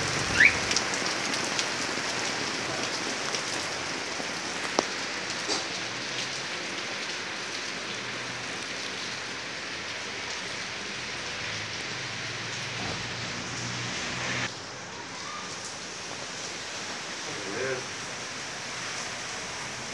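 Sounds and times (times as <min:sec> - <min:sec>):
heavy rain falling: 0:00.0 - 0:19.9.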